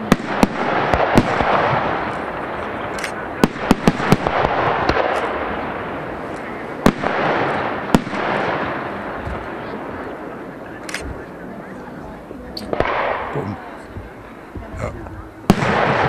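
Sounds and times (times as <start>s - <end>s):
steady rush of noise: 0.0s - 16.0s.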